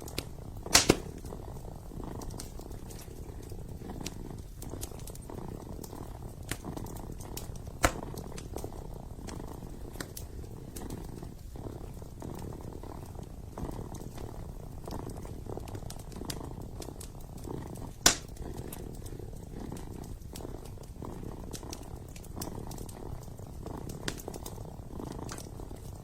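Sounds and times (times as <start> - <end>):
fireplace crackling and popping: 0.0 - 26.0
kitten purring: 0.0 - 26.0.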